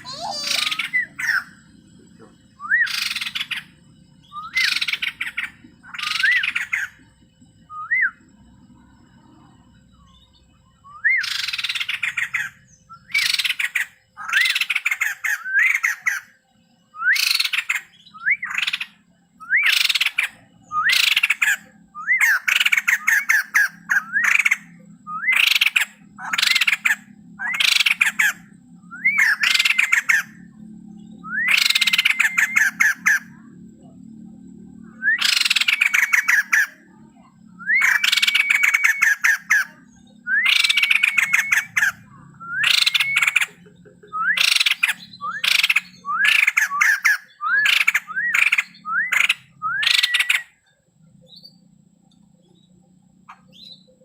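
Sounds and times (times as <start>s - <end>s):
bird whistling and chattering: 0.0s - 7.0s, 7.6s - 8.2s, 10.8s - 30.5s, 31.2s - 33.4s, 34.8s - 51.6s, 53.3s - 54.0s.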